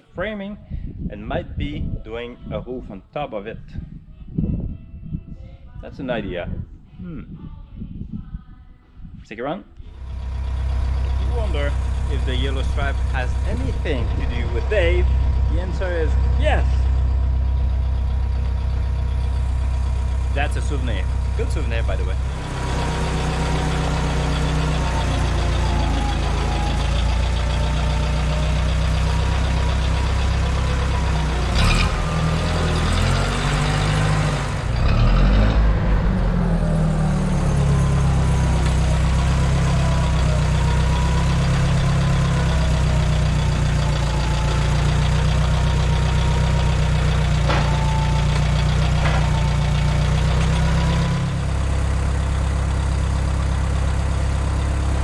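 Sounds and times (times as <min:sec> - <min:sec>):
engine running: 0:09.9 - 0:55.0.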